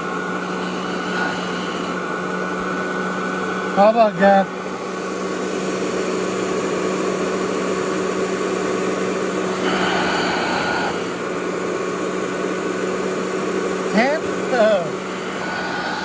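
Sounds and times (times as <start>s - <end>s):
vacuum cleaner motor humming: 0.0s - 16.0s.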